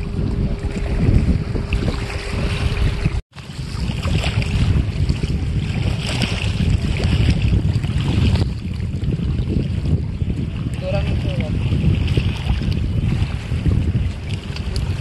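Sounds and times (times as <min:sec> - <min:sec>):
small waves lapping: 0:00.0 - 0:15.0
wind buffeting microphone: 0:00.0 - 0:15.0.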